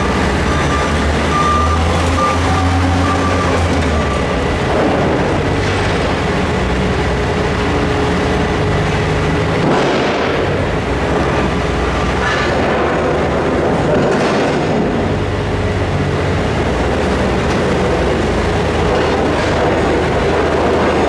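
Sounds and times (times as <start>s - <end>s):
excavator diesel engine rumbling: 0.0s - 21.0s.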